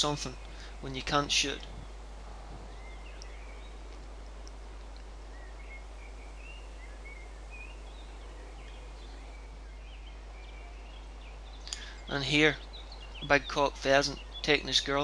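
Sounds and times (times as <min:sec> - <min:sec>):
birds chirping: 0:00.0 - 0:15.0
rural background hiss: 0:00.0 - 0:15.0.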